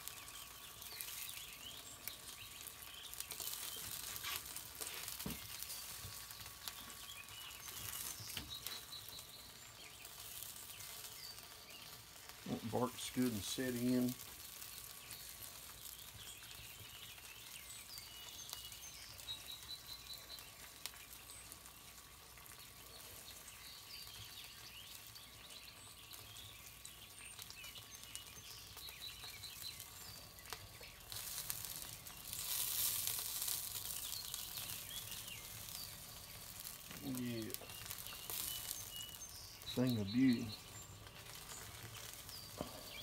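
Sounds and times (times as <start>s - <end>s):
meat fat sizzling and crackling: 0.0s - 43.0s.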